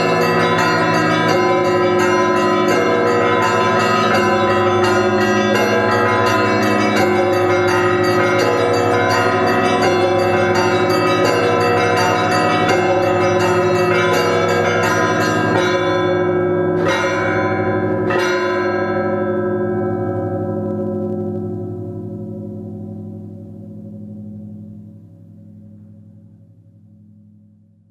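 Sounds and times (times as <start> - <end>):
big bells humming: 0.0 - 25.6.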